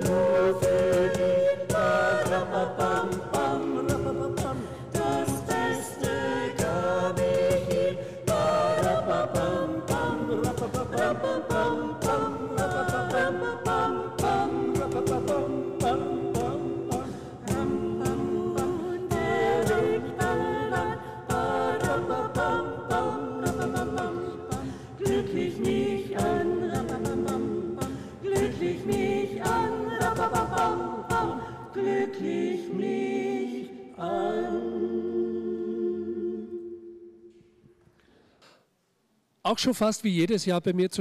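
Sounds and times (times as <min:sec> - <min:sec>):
voices singing together: 0:00.0 - 0:37.6.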